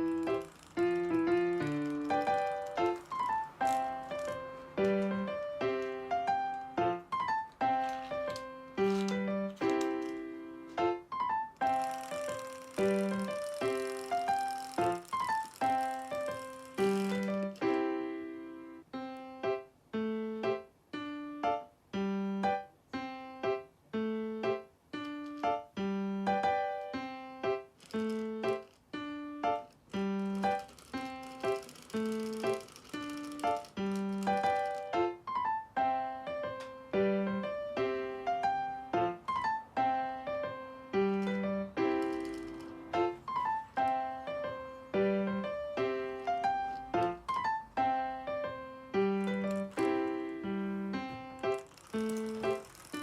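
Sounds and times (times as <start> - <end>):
plinking piano melody: 0.0 - 53.0.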